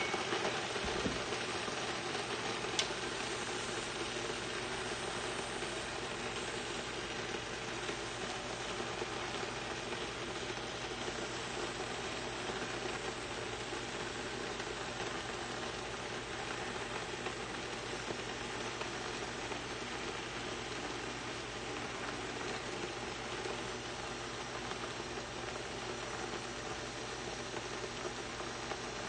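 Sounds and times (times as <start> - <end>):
rice sizzling and bubbling in pan: 0.0 - 29.0.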